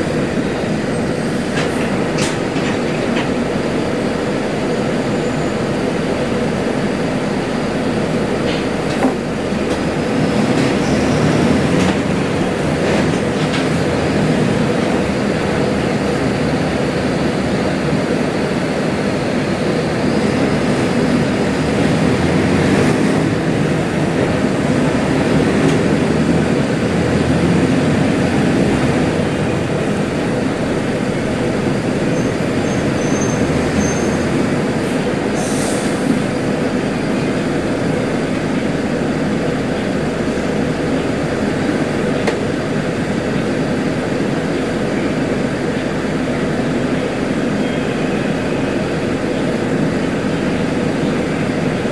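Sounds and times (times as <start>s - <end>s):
diesel bus engine running: 0.0s - 51.9s
road noise: 0.0s - 51.9s.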